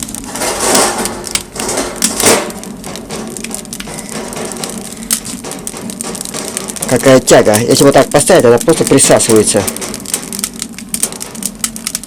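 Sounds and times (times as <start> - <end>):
firewood crackling: 0.0 - 12.0.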